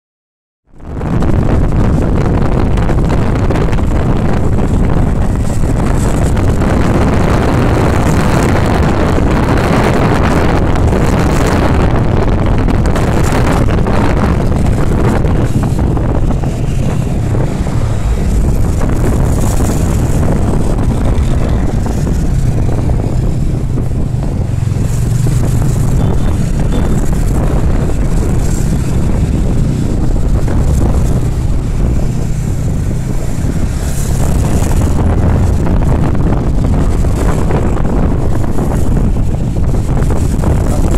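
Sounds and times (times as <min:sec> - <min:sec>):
wind rumbling on microphone: 0:00.6 - 0:40.9
motorcycle engine drone: 0:00.7 - 0:40.9.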